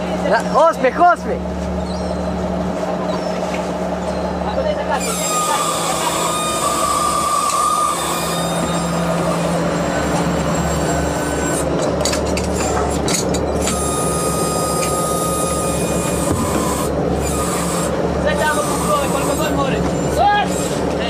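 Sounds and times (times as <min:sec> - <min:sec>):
boat engine drone: 0:00.0 - 0:21.0
thin whining tones: 0:00.2 - 0:21.0.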